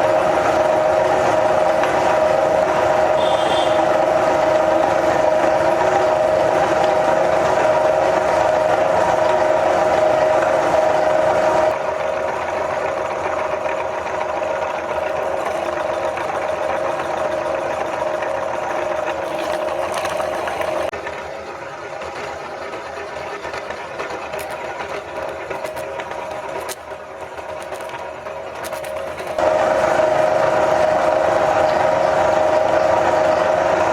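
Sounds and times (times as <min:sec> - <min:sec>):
meat grinder motor whining: 0:00.0 - 0:33.9.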